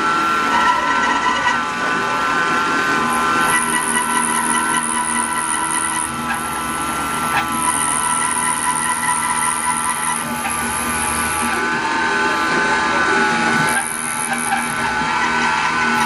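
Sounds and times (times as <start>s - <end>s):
router spindle milling whine: 0.0s - 16.0s.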